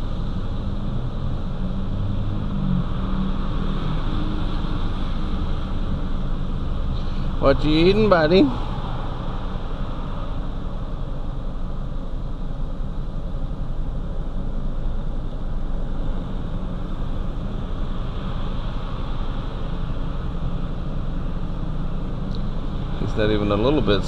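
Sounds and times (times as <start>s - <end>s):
car idling hum: 0.0s - 24.0s.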